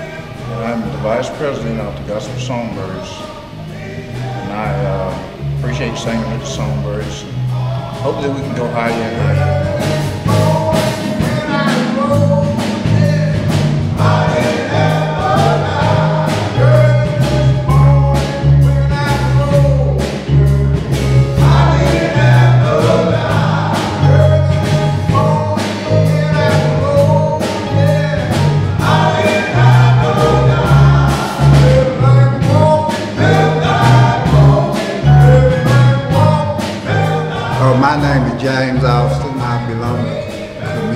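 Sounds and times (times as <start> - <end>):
bass guitar: 0.0 - 40.9
male group singing in harmony: 0.0 - 40.9
steady beat: 0.0 - 40.9.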